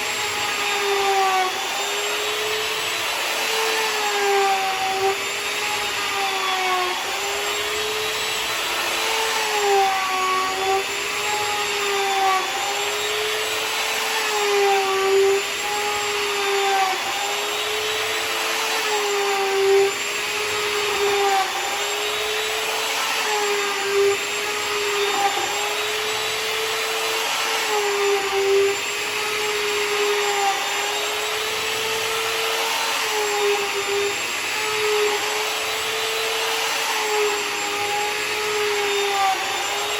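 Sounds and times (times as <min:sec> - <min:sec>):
router whining while milling wood: 0:00.0 - 0:39.9.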